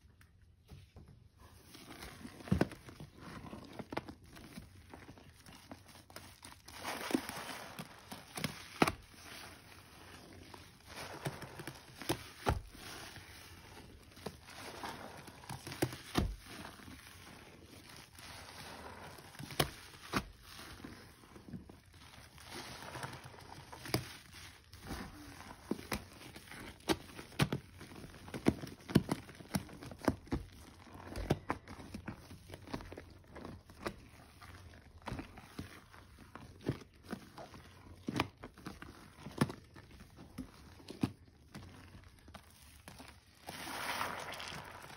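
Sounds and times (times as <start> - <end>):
sponge squelching: 0.8 - 44.9.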